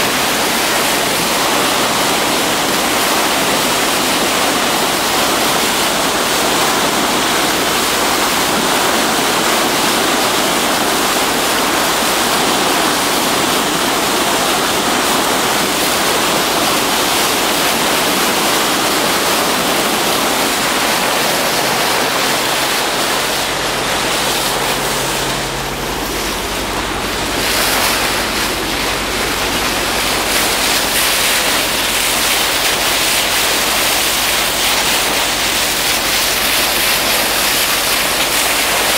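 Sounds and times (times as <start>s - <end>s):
bow wave rushing along hull: 0.0s - 38.9s
low steady hum: 6.5s - 38.9s.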